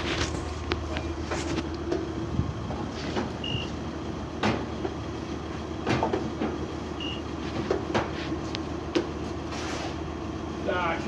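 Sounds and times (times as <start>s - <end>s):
car wash machinery humming: 0.0s - 11.0s.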